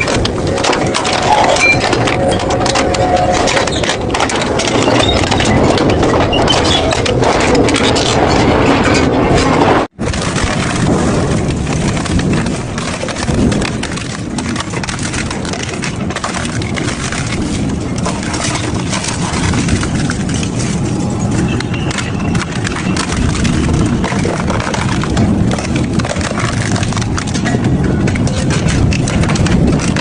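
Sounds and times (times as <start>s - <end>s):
shredder crushing metal: 0.0s - 30.0s.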